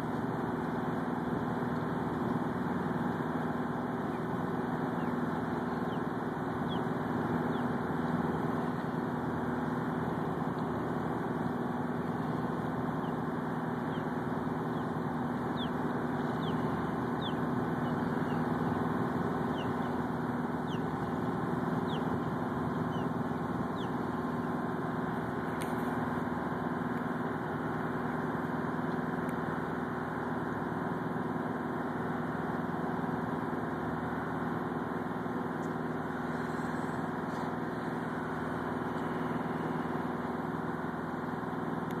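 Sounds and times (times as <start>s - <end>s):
boat engine humming: 0.0s - 42.0s.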